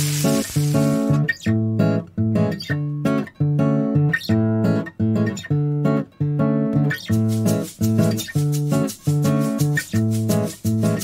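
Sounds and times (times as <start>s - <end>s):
guitar playing plucked chords: 0.0s - 11.0s.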